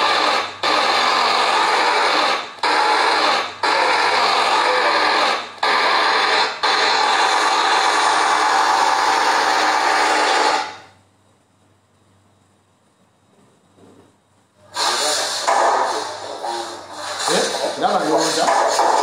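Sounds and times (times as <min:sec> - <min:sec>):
loud rushing noise from tv: 0:00.0 - 0:11.0, 0:14.7 - 0:19.0.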